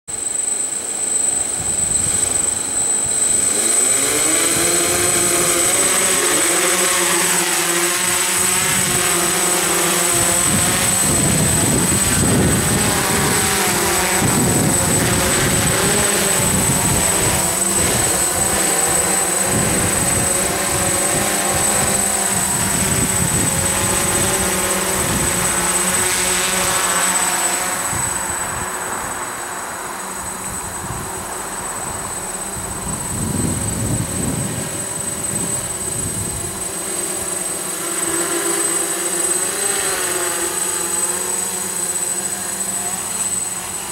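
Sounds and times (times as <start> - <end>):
drone motors buzzing: 0.1 - 43.9
thin high tone: 0.1 - 43.9.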